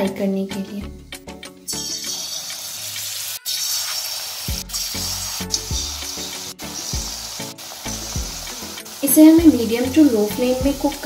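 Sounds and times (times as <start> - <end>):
background music low held notes: 0.0 - 3.5, 4.3 - 11.0
batter frying in hot oil: 1.8 - 11.0.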